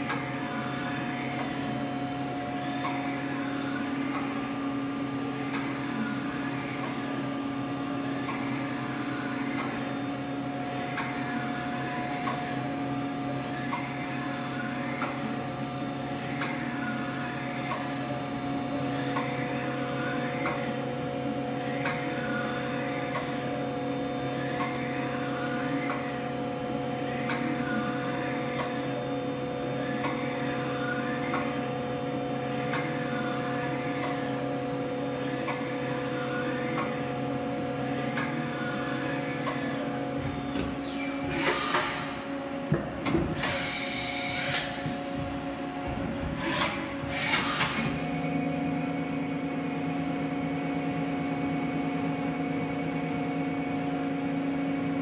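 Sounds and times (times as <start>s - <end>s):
steady machine tone: 0.0s - 42.7s, 43.4s - 55.0s
milling machine hum: 0.0s - 55.0s
rising and falling whine: 0.0s - 55.0s.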